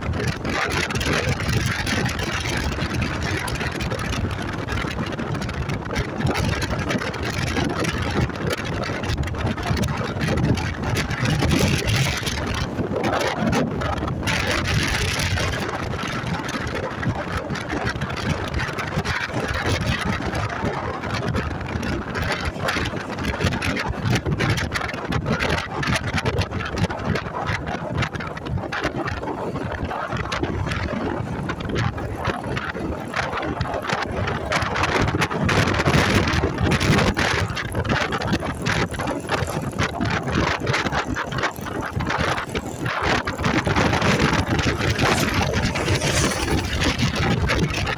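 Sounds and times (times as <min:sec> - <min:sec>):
motorcycle road and engine noise: 0:00.0 - 0:47.9
wind buffeting microphone: 0:00.0 - 0:47.9.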